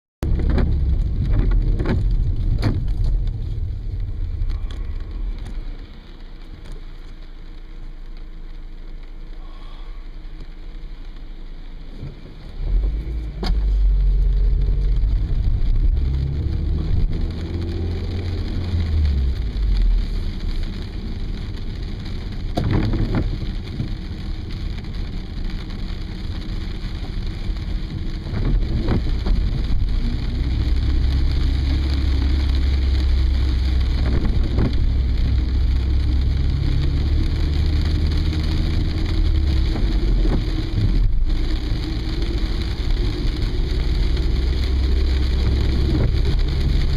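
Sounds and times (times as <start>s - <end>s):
car engine and road rumble: 0.2s - 46.9s
rain on car body: 0.2s - 46.9s.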